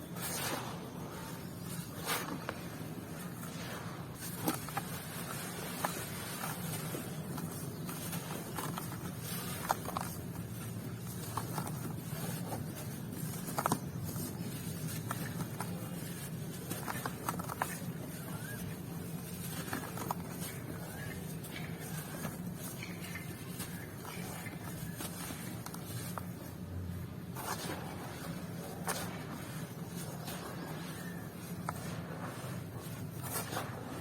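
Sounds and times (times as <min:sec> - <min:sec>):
dry clumps crumbling: 0:00.2 - 0:34.0.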